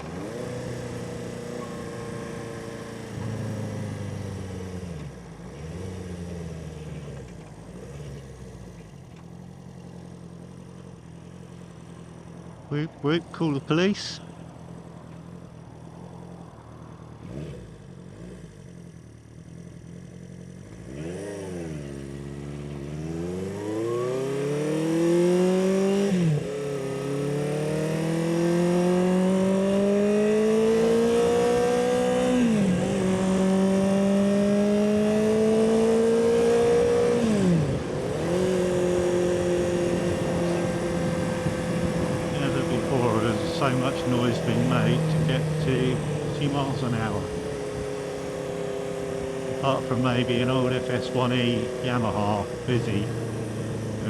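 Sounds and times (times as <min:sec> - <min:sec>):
motorcycle engine revving: 0:00.0 - 0:13.1, 0:13.7 - 0:54.0.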